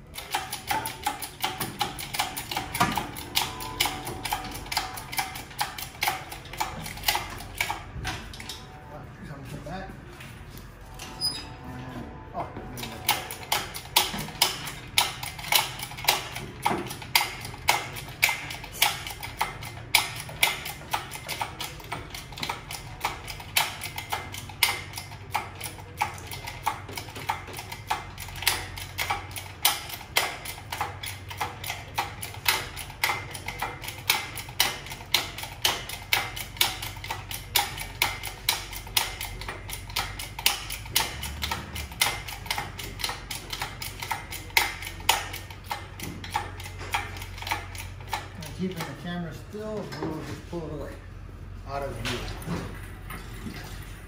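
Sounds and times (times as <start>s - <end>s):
steady ticking clicks: 0.0s - 8.6s, 12.8s - 49.1s.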